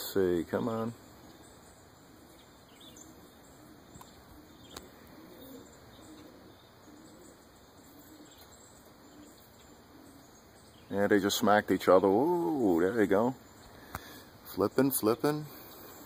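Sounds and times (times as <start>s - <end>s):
pigeons cooing: 0.0s - 14.5s, 15.1s - 16.0s
steady background hiss: 0.0s - 16.0s.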